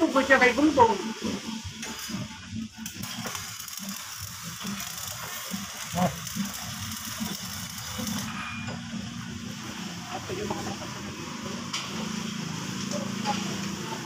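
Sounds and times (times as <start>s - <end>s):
arc welding crackling hiss: 0.0s - 14.0s.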